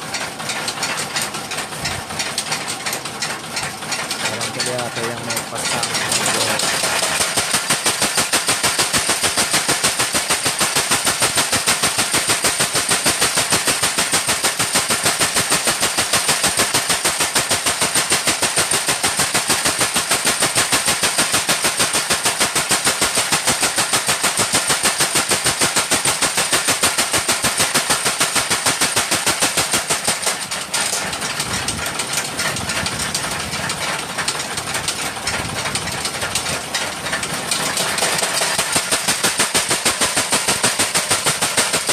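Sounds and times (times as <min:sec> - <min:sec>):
irregular metallic clatter: 0:00.0 - 0:41.9
power hammer pounding steel: 0:00.0 - 0:41.9.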